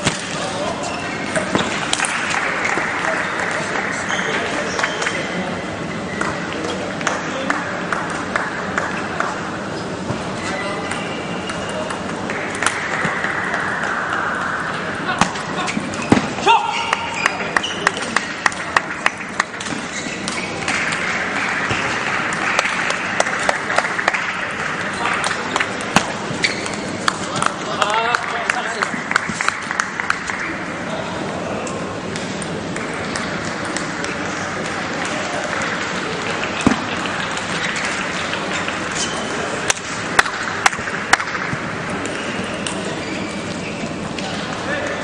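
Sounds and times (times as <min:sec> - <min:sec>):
crowd noise hiss: 0:00.0 - 0:45.0.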